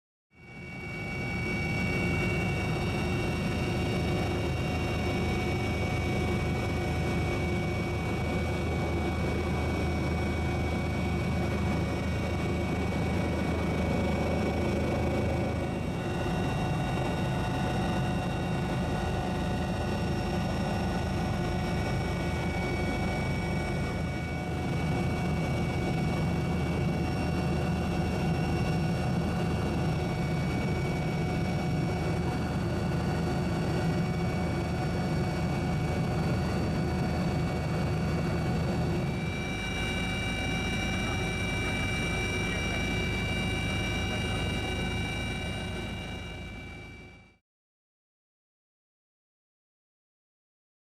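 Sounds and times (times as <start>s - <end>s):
helicopter engine and rotor: 0.3s - 47.4s.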